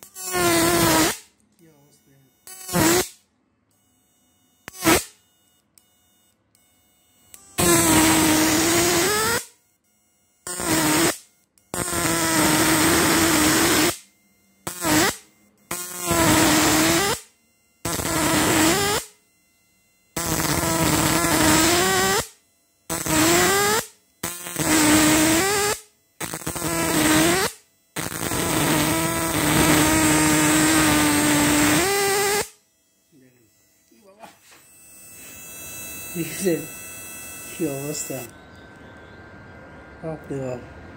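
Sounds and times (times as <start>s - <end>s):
electric arc buzzing and crackling: 0.0s - 3.3s, 4.6s - 5.2s, 7.3s - 9.6s, 10.4s - 19.4s, 20.1s - 38.3s.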